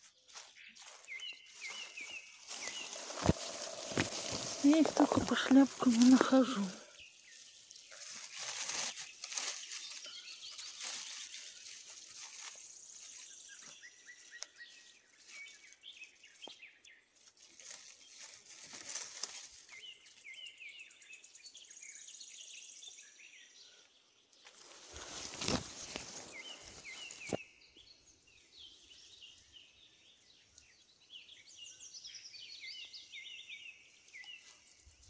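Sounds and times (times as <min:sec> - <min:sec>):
rustling of clothing and undergrowth: 0:00.0 - 0:22.0, 0:23.6 - 0:35.0
small birds chirping: 0:00.0 - 0:35.0.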